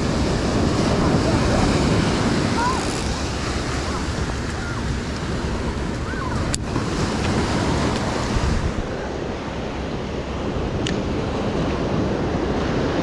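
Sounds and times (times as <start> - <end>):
ocean surf washing onto beach: 0.0 - 13.0
wind buffeting microphone: 0.0 - 13.0.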